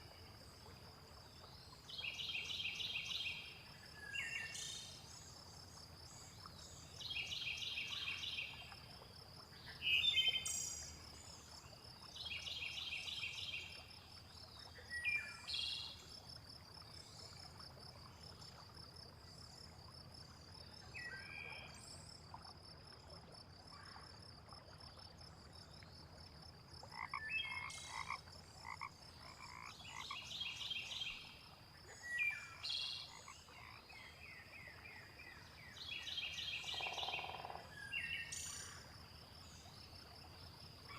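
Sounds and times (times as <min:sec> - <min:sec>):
frogs croaking: 0:02.0 - 0:40.9.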